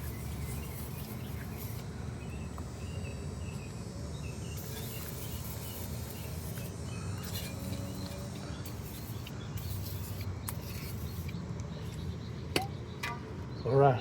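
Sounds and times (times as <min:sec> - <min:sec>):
faint bird or insect chirps: 0:00.0 - 0:14.0.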